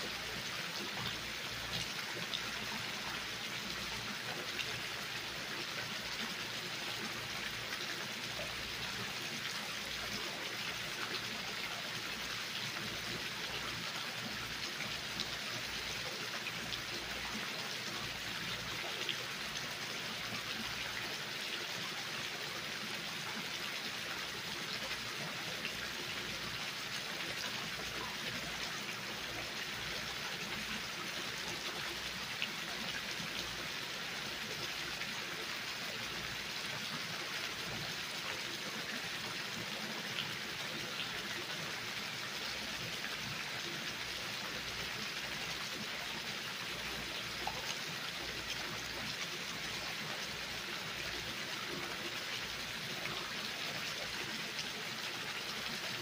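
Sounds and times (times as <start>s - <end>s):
fountain water splashing into pool: 0.0s - 56.0s.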